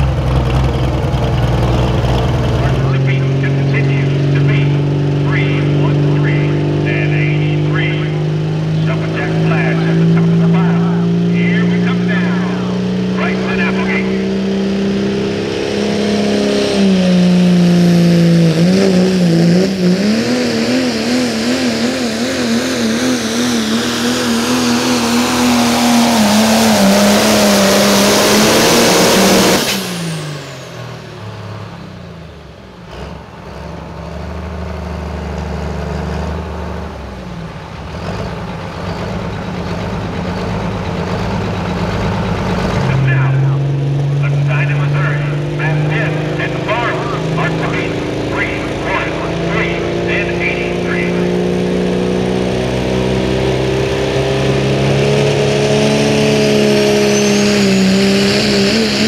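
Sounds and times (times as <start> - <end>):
truck engine at full throttle: 0.0 - 59.0.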